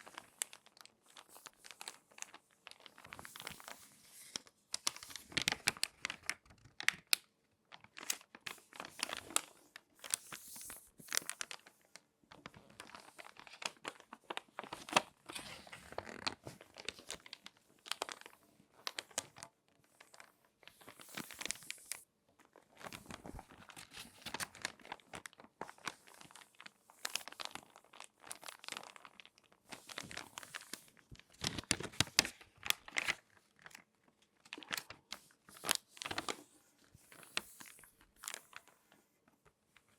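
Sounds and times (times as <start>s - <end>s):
magazine pages crinkling: 0.0s - 39.1s.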